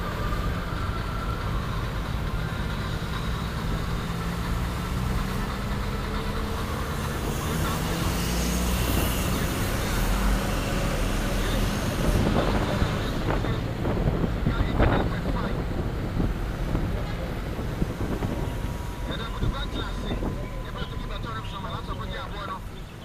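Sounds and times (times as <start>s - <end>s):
rushing noise: 0.0s - 23.0s
vehicle engine and road hum: 0.0s - 23.0s.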